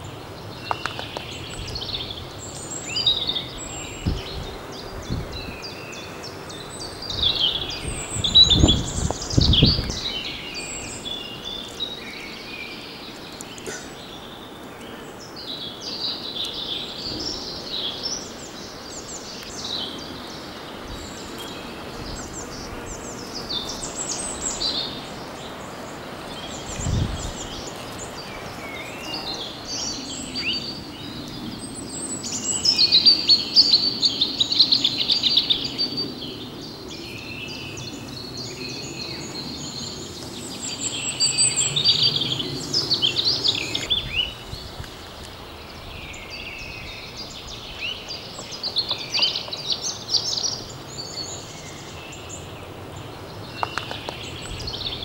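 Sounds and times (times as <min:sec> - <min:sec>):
outdoor background hiss: 0:00.0 - 0:55.0
songbirds twittering: 0:00.0 - 0:55.0.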